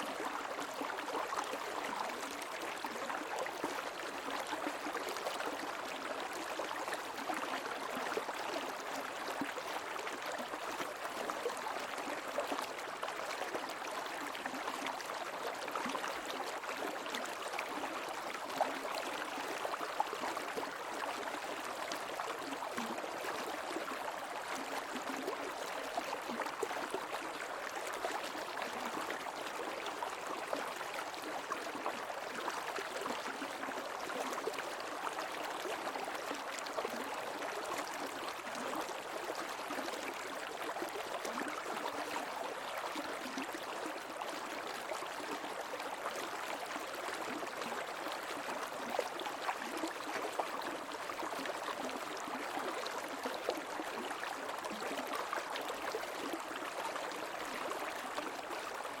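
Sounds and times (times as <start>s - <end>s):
creek water babbling over stones: 0.0s - 59.0s.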